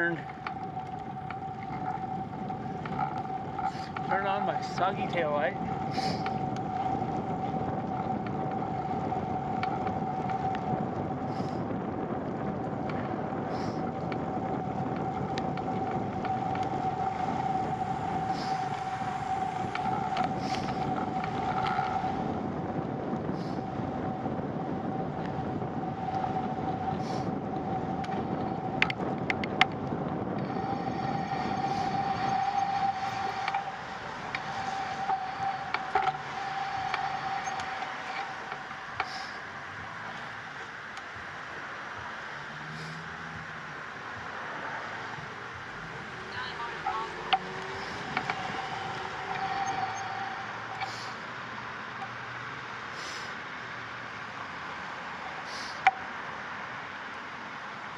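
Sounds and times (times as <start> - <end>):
bicycle tyres on wet asphalt: 0.0 - 57.9
thin steady whine: 0.0 - 57.9.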